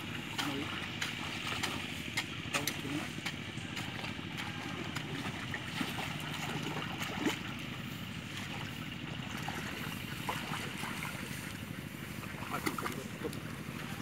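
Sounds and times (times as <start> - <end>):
small splashes: 0.0 - 14.0
water sloshing around wading legs: 0.0 - 14.0.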